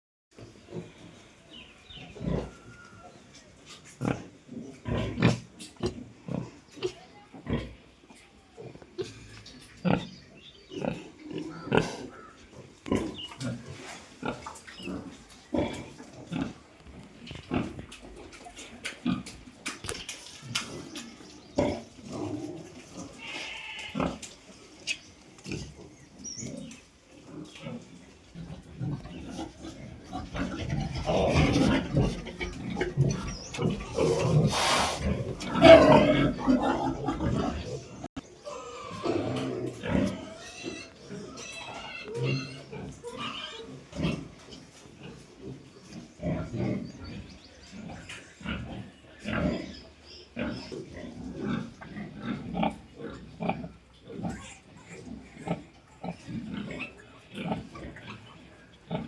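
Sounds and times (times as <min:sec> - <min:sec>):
pigs grunting: 0:02.0 - 0:02.8, 0:03.7 - 0:07.8, 0:08.6 - 0:24.4, 0:25.4 - 0:59.0.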